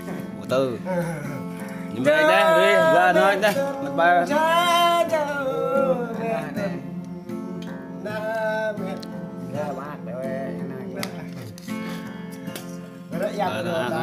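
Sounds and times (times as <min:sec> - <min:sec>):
acoustic guitar strumming: 0:00.0 - 0:14.0
person singing: 0:00.8 - 0:12.0.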